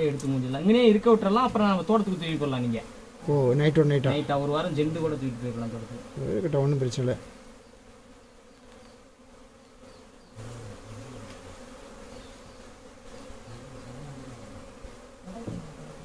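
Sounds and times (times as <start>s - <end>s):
single bee humming close by: 0.0s - 16.0s
swarm of bees buzzing: 0.0s - 16.0s.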